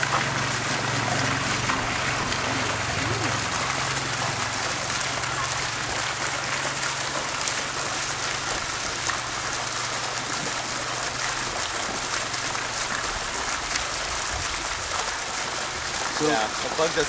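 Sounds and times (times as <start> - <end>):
water splashing into pond: 0.0 - 17.0.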